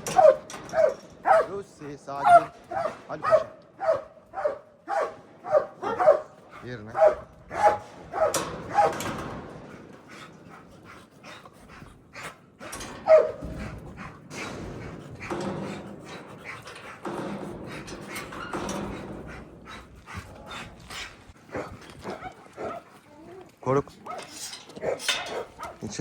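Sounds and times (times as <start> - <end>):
dogs whining: 0.0 - 25.9
dogs barking: 0.0 - 26.0.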